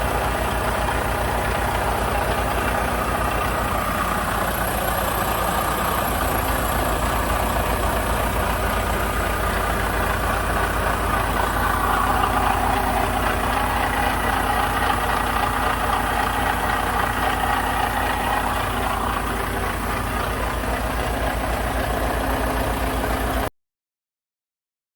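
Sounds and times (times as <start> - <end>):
truck engine idling: 0.0 - 23.5.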